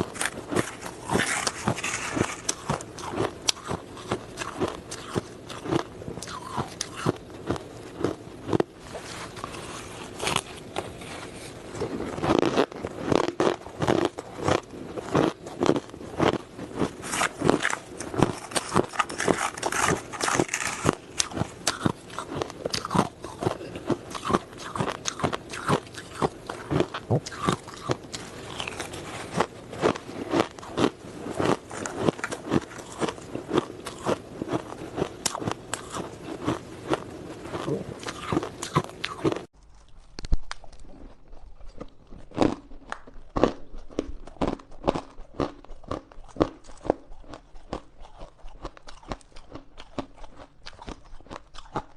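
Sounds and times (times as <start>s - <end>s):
ice being chewed crunching: 0.0s - 51.9s.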